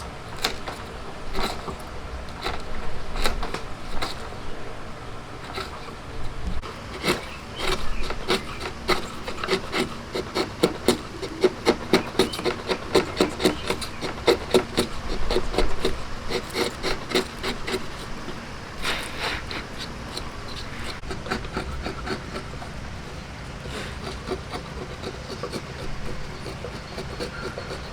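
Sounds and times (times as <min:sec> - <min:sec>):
hand tool scraping wood: 0:00.0 - 0:27.9.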